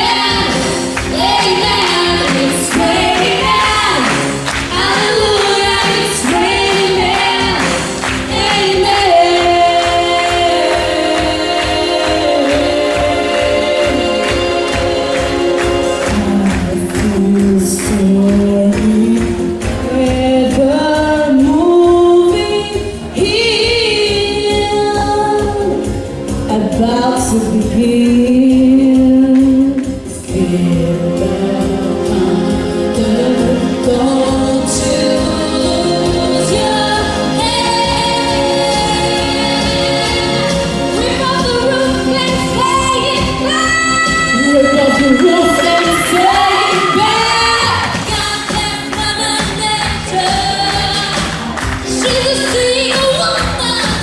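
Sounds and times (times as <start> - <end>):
women singing long notes: 0.0 - 25.6, 27.7 - 51.2
pop backing beat: 0.0 - 54.0.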